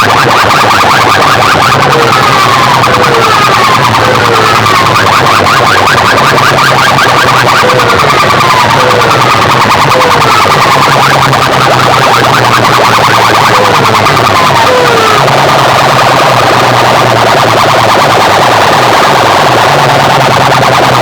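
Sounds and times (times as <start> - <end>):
distorted siren-like electronic effects: 0.0 - 21.0.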